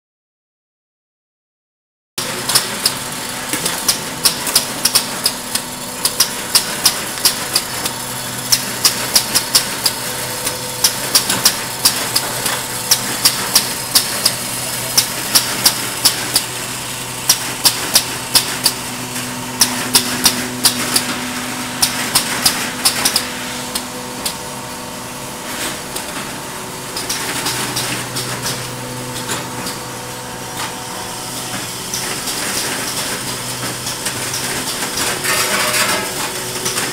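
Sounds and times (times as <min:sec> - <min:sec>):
motor hum: 0:02.2 - 0:36.9.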